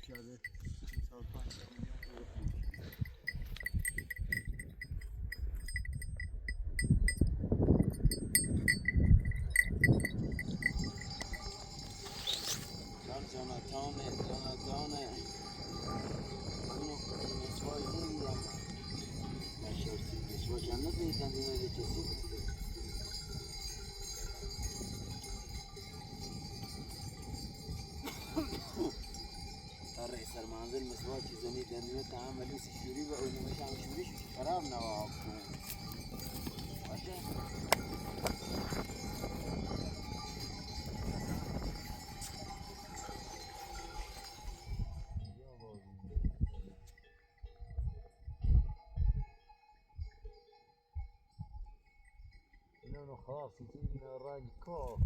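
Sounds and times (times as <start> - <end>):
metal livestock bells clinking: 0.0 - 55.0.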